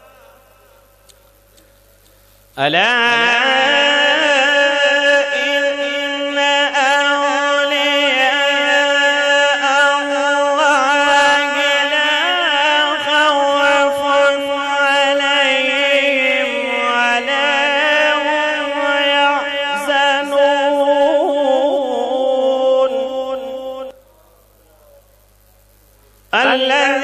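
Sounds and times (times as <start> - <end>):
man reciting melodically: 2.6 - 24.5, 26.3 - 27.0.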